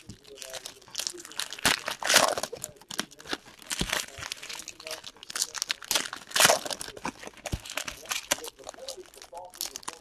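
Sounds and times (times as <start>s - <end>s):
foil wrappers crinkling: 0.0s - 10.0s.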